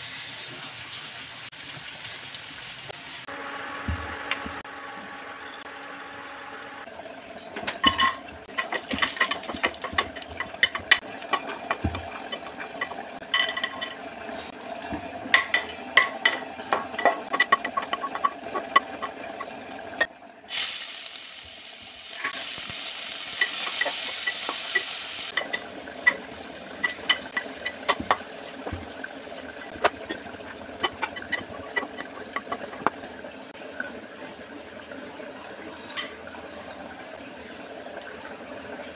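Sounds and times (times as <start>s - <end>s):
hot ghee sizzling: 0.0s - 33.5s.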